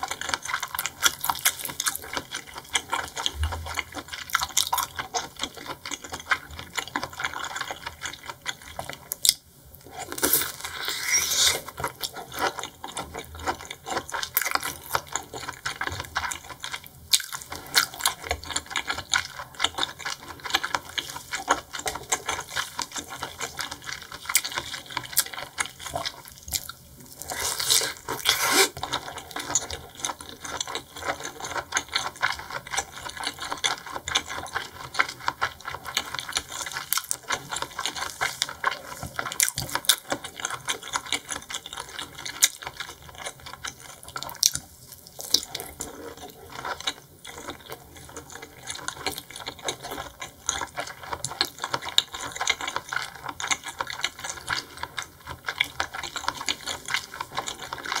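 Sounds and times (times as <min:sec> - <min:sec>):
wet sticky chewing: 0:00.0 - 0:58.0.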